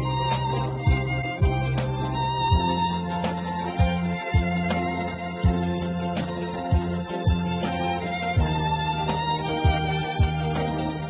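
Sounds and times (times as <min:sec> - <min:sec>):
held tones music: 0:00.0 - 0:11.0.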